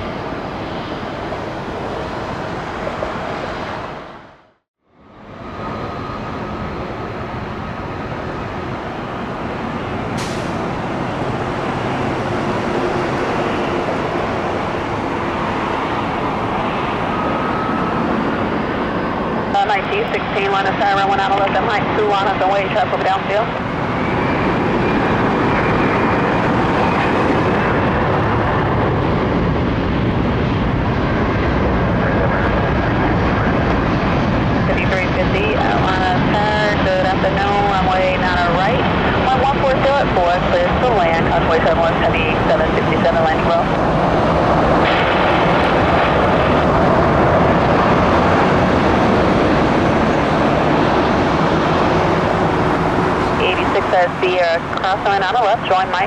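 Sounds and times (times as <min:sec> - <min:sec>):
jet airliner passing: 0:00.0 - 0:56.0
faint high engine whine: 0:04.9 - 0:31.4, 0:32.4 - 0:56.0.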